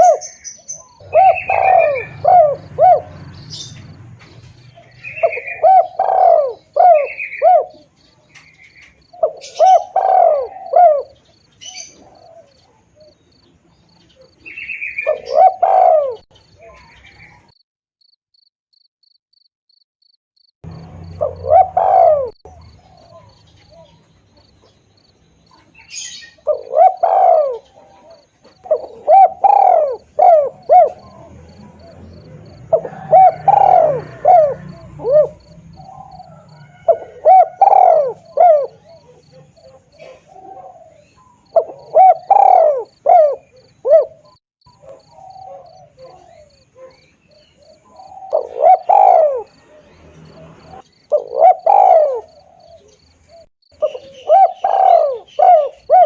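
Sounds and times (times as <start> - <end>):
dove cooing: 0.0 - 13.2, 13.9 - 17.6, 20.7 - 24.7, 25.5 - 56.0
cricket chirping: 0.0 - 56.0
small birds chirping: 0.0 - 56.0.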